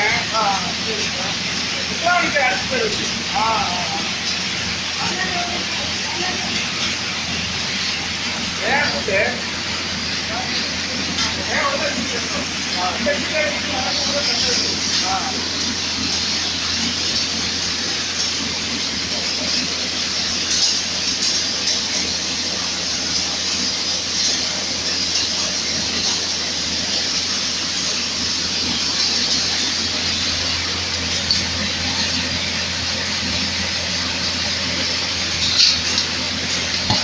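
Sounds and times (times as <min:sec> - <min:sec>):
machine motor hum: 0:00.0 - 0:37.0.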